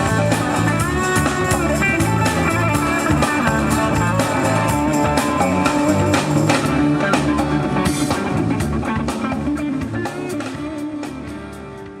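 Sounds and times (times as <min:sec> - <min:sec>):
drum kit: 0:00.0 - 0:12.0
folk band playing: 0:00.0 - 0:12.0
guitar: 0:00.0 - 0:12.0.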